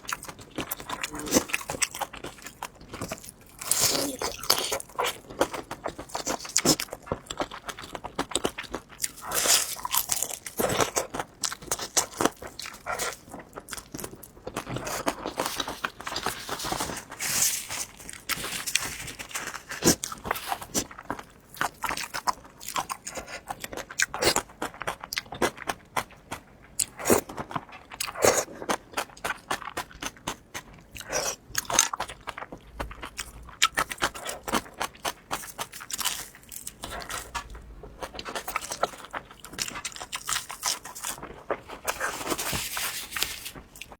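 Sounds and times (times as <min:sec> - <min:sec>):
person chewing crunchy food: 0:00.0 - 0:43.9.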